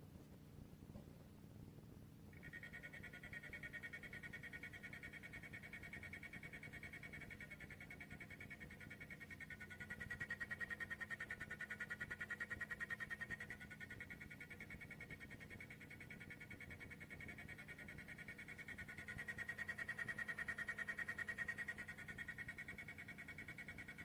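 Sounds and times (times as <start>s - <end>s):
printer stepper motors whining: 2.4s - 24.0s.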